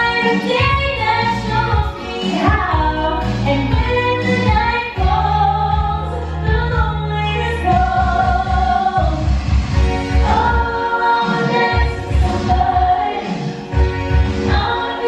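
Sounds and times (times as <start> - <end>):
backing track with bass line: 0.0 - 15.0
woman singing pop song: 0.0 - 15.0.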